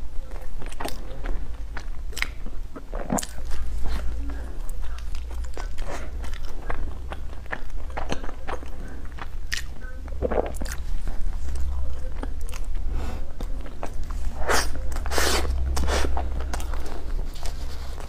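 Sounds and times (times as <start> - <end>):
person chewing food: 0.3 - 18.0.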